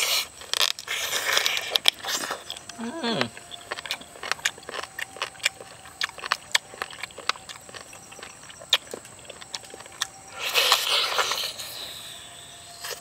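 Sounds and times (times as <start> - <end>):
person chewing wetly: 0.0 - 11.8.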